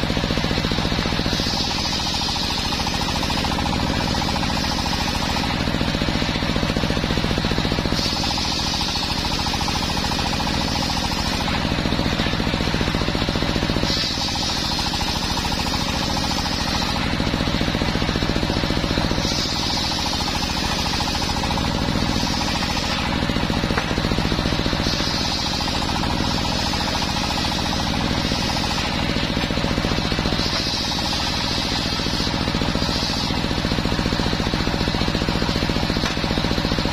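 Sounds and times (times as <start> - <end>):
circular saw cutting wood: 0.0 - 36.9
engine running with rapid beat: 0.0 - 36.9.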